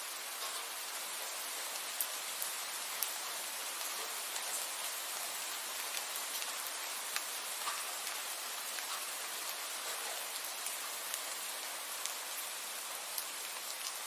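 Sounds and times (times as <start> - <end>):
steady rain hiss: 0.0 - 14.0
raindrops ticking: 0.1 - 14.0.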